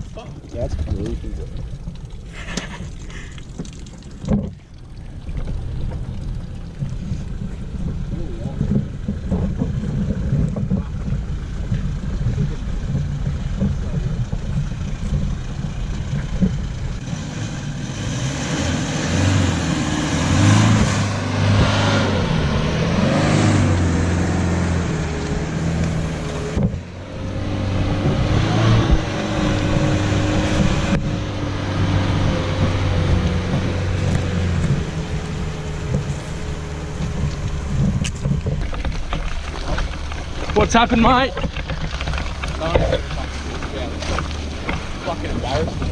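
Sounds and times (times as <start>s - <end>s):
tyre and mud noise: 0.0s - 45.9s
engines revving under load: 5.5s - 45.9s.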